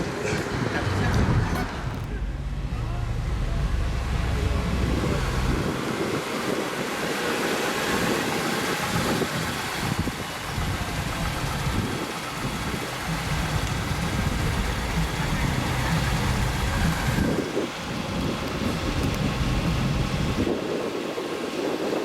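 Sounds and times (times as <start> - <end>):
car engines rumbling: 0.0 - 22.0
wind noise on microphone: 0.0 - 22.0.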